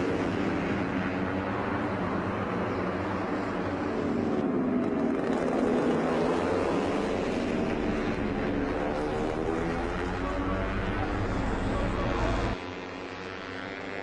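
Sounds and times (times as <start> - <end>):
racing motorcycle engines at high revs: 0.0 - 14.0.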